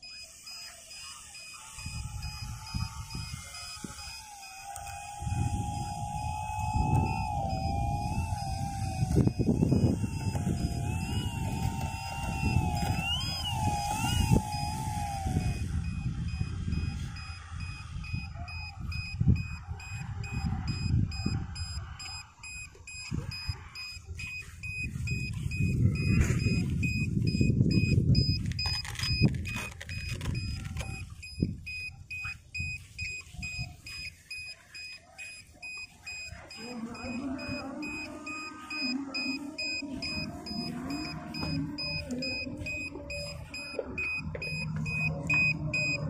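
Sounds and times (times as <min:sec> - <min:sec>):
rapid high electronic beeps: 0:00.0 - 0:46.0
wavering whine: 0:00.0 - 0:46.0
wind rumbling on microphone: 0:01.6 - 0:34.5, 0:35.6 - 0:46.0.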